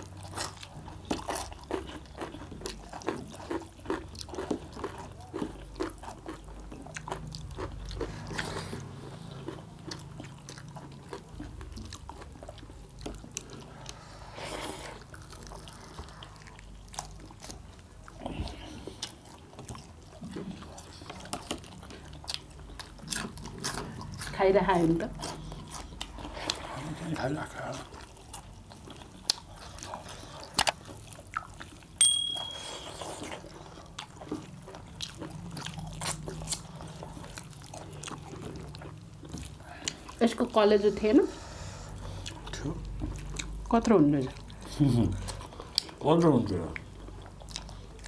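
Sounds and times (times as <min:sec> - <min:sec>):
chewing meat and bones: 0:00.0 - 0:32.0, 0:32.6 - 0:48.0.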